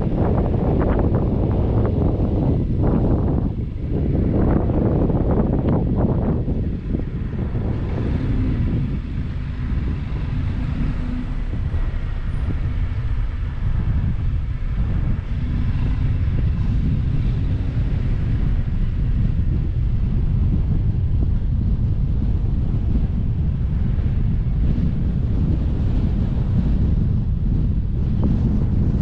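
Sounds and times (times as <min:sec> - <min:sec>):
vehicle road noise: 0:00.0 - 0:29.0
wind buffeting microphone: 0:00.0 - 0:29.0.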